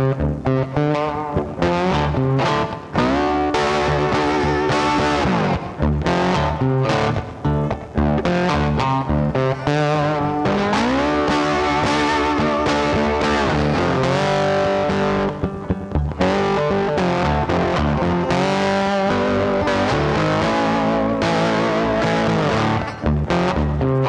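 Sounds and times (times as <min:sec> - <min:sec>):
distorted electric guitar rock: 0:00.0 - 0:24.0.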